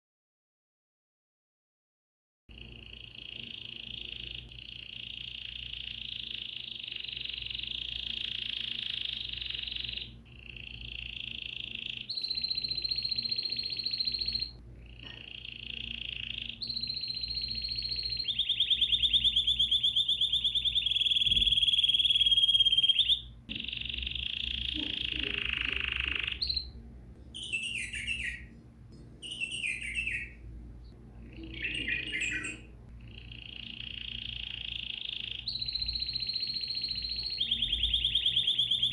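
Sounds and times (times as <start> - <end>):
songbird trilling: 2.5 - 28.6, 29.2 - 38.9
bird chirping: 2.5 - 38.9.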